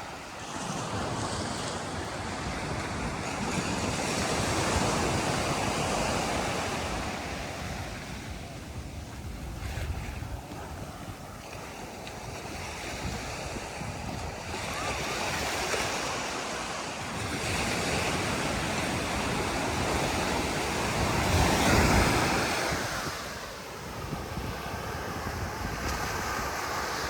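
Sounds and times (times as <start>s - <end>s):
waves breaking on a beach: 0.0s - 27.0s.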